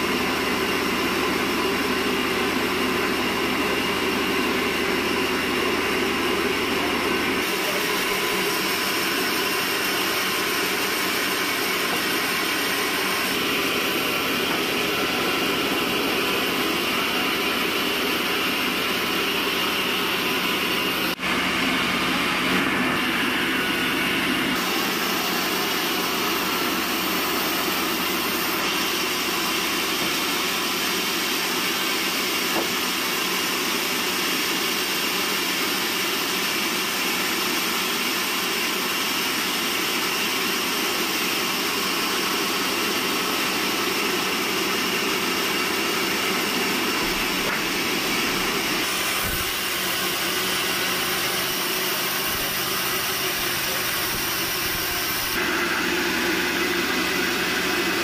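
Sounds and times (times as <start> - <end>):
band sawmill cutting log: 0.0 - 58.0.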